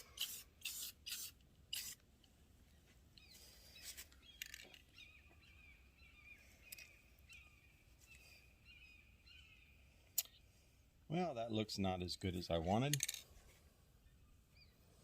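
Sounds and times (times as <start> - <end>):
faint birds chirping: 1.4 - 15.0.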